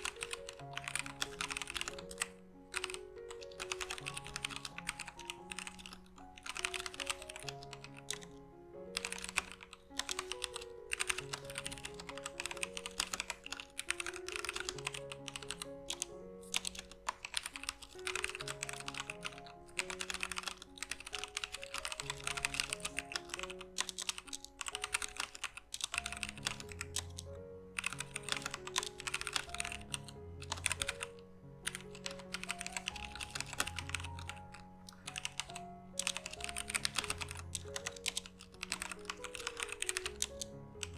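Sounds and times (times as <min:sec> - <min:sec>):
mechanical keyboard key clacks: 0:00.0 - 0:08.3, 0:09.0 - 0:40.9
background music: 0:00.0 - 0:40.9.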